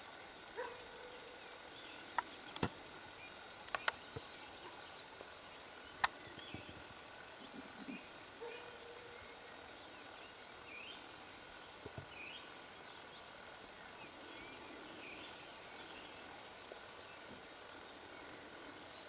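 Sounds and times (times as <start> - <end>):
faint outdoor ambience: 0.0 - 19.0.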